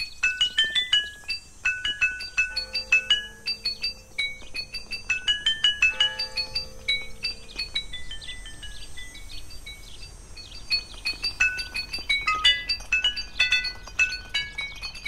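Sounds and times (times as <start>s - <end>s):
glassy clinks and pings: 0.2s - 15.0s.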